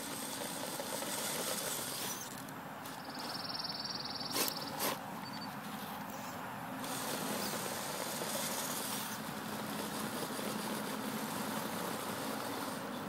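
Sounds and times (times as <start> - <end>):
rc car motor whining: 0.0 - 5.5, 6.1 - 13.0.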